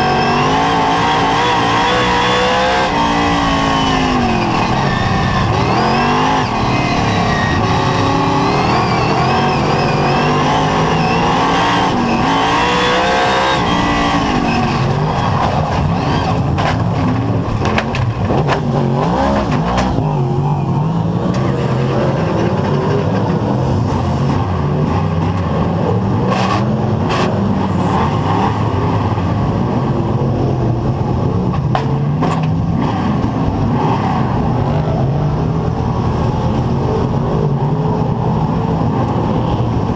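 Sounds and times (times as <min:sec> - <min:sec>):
other race car engines: 0:00.0 - 0:39.9
race car engine revving: 0:00.0 - 0:39.9.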